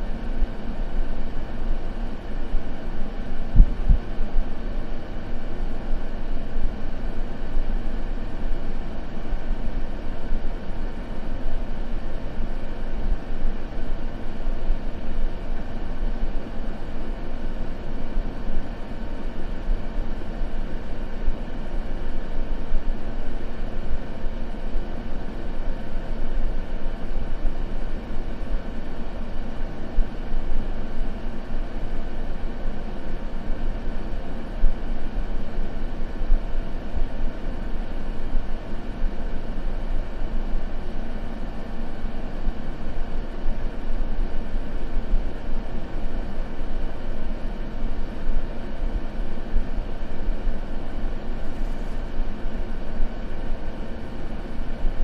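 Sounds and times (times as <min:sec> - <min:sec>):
deep rumbling white noise: 0:00.0 - 0:55.0.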